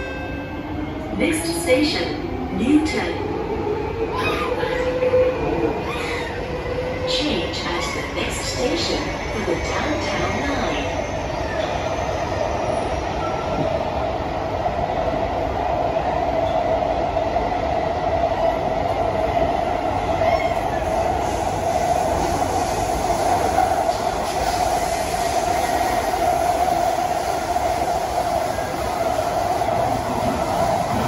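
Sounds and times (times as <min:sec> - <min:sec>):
mid-pitched train hum: 0:00.0 - 0:31.0
train wheels rumbling on rail: 0:01.0 - 0:31.0.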